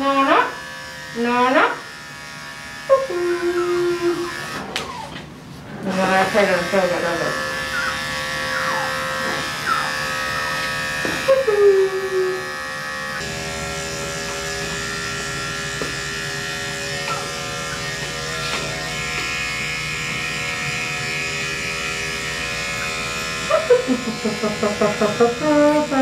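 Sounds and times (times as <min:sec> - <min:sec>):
electric dog clipper humming: 0:00.0 - 0:26.0.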